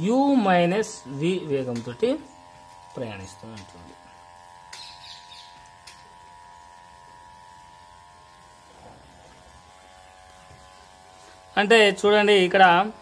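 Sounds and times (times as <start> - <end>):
faint electrical buzz: 0.0 - 13.0.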